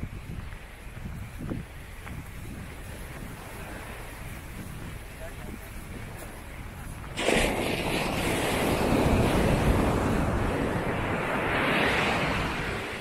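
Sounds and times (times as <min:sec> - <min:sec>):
waves breaking on a beach: 0:00.0 - 0:13.0
water washing up the shore: 0:02.2 - 0:13.0.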